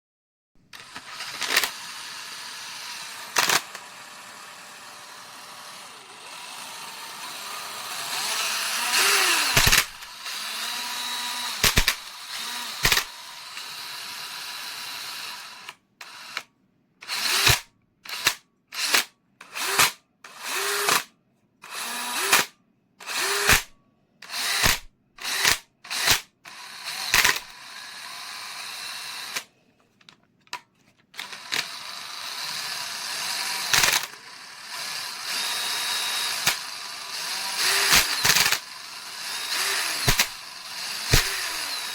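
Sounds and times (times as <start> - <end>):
cordless drill running: 0.8 - 29.5, 31.2 - 41.9.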